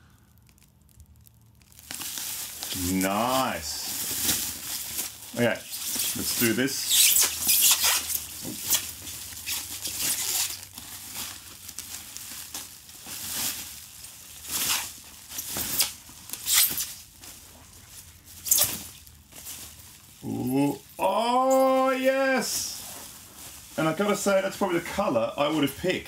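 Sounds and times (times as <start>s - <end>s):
foil sleeve crinkling: 0.1s - 26.0s.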